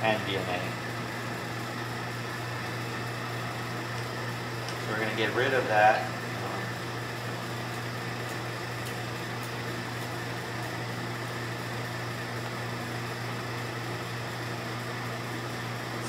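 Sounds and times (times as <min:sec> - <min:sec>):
low hum of room equipment: 0:00.0 - 0:16.0.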